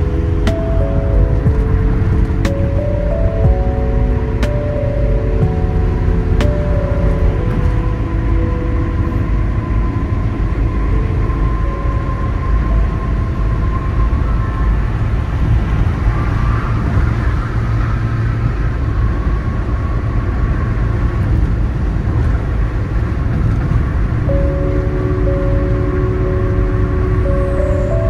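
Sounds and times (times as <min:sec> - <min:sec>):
car driving on highway: 0:00.0 - 0:28.0.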